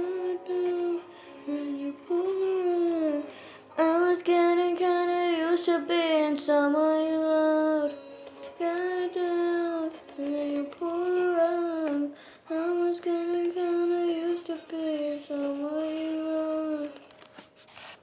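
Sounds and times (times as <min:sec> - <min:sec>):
girl singing: 0:00.0 - 0:17.1.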